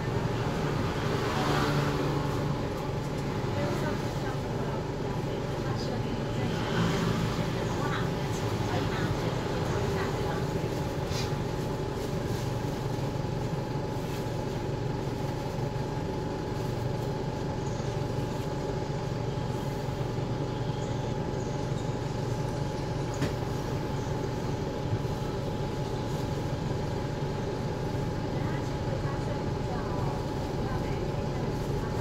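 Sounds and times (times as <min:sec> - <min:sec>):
bus engine drone: 0:00.0 - 0:32.0.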